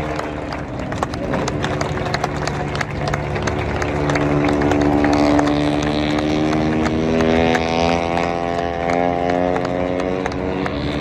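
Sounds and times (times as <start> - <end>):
race motorcycle engines screaming: 0.0 - 11.0.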